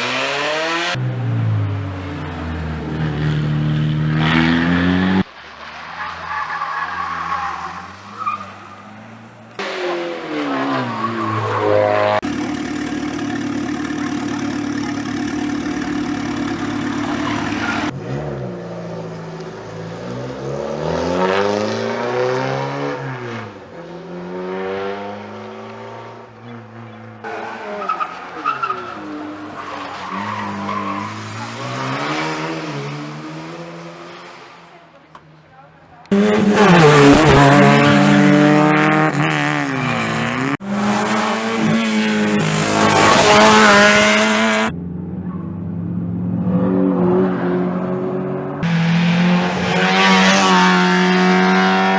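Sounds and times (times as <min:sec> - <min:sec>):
race car engines revving: 0:00.0 - 0:51.9.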